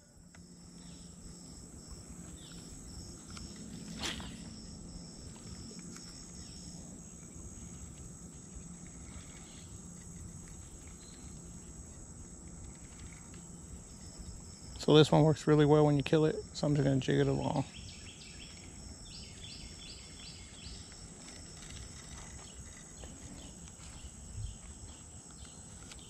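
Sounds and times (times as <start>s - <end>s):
insects buzzing and chirping: 0.0s - 26.0s
low outdoor rumble: 0.0s - 26.0s.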